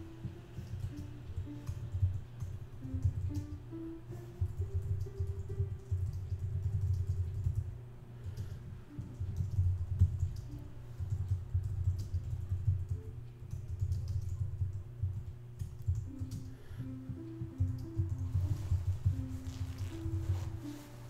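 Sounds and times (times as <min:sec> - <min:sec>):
background music: 0:00.0 - 0:21.0
keyboard typing clicks: 0:00.2 - 0:20.4.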